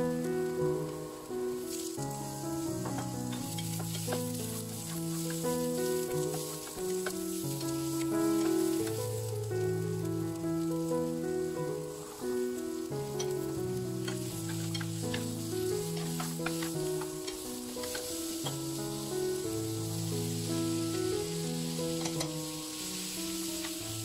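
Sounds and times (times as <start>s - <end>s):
slow background music: 0.0s - 24.0s
vegetables sizzling in a frying pan: 0.0s - 24.0s.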